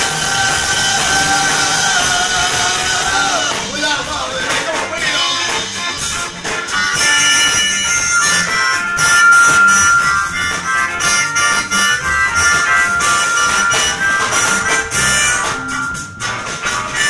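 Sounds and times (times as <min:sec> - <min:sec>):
harmonica solo: 0:00.0 - 0:03.8, 0:05.1 - 0:17.0
blues rock band playing: 0:00.0 - 0:17.0
drums: 0:00.0 - 0:17.0.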